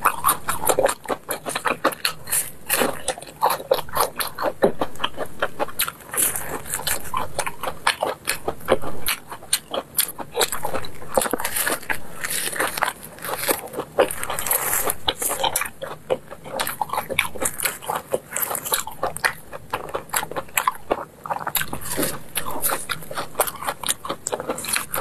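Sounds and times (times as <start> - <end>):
crisp crust crunching: 0.0 - 25.0
person chewing crunchy cakes: 0.0 - 25.0.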